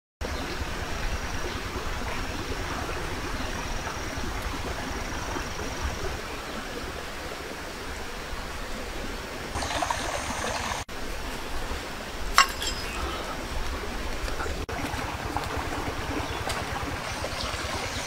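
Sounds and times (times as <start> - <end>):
stream rushing over rocks: 0.7 - 18.0.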